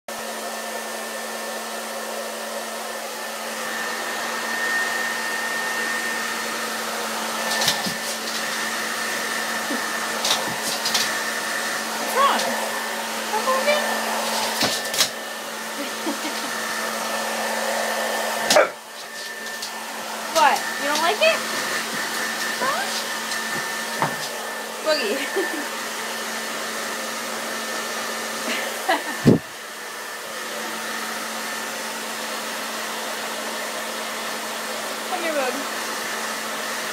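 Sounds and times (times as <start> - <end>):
hair dryer blowing: 0.1 - 36.9.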